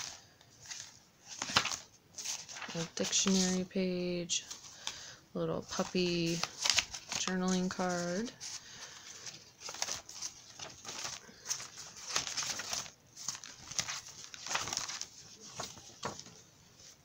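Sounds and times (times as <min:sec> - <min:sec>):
pages flipping: 0:00.0 - 0:03.6, 0:04.4 - 0:17.0.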